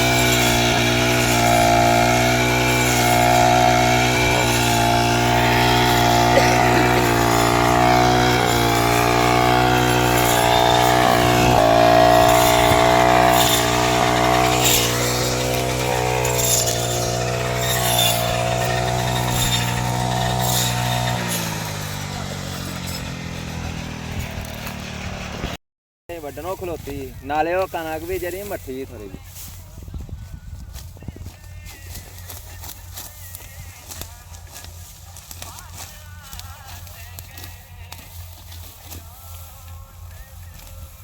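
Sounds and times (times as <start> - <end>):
harvester engine running: 0.0 - 25.6, 31.0 - 41.0.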